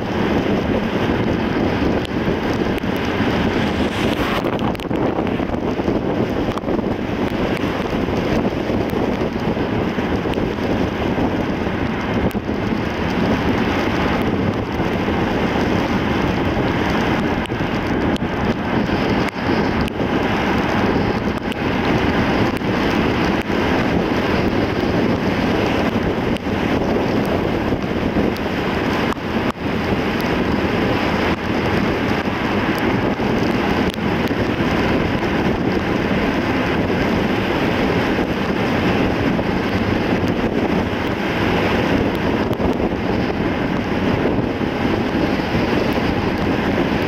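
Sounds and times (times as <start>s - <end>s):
tyre and wind noise: 0.0s - 47.0s.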